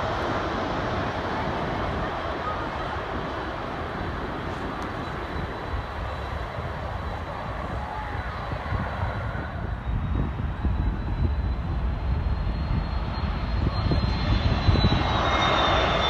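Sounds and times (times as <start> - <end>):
jet airliner engine rumble: 0.0 - 16.0.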